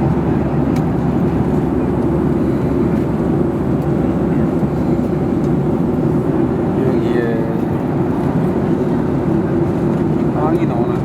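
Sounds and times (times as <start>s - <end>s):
airliner cabin engine rush: 0.0s - 11.0s.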